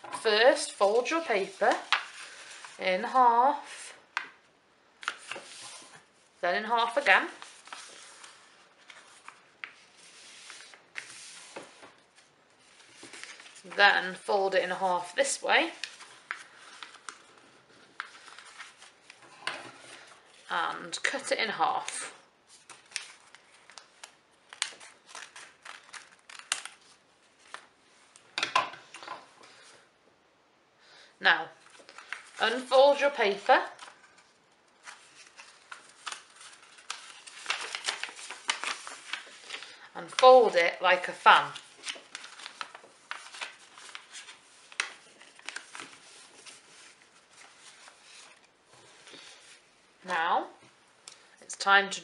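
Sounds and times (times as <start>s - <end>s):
paper rustling and crackling: 0.2s - 4.3s, 5.0s - 6.2s, 6.8s - 14.2s, 15.0s - 20.5s, 21.8s - 28.2s, 31.6s - 49.7s.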